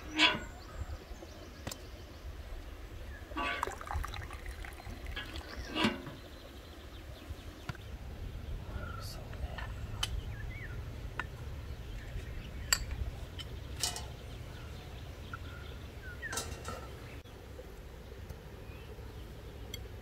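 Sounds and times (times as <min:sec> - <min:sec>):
birds chirping: 0:00.0 - 0:20.0
low background rumble: 0:00.0 - 0:20.0.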